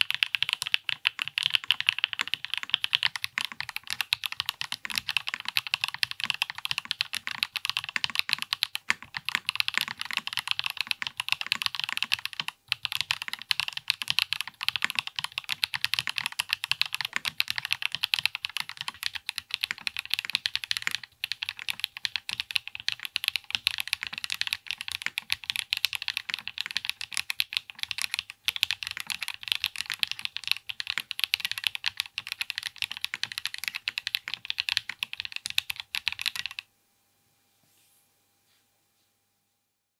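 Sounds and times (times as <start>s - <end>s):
fast typing on mechanical keyboard: 0.0s - 36.6s.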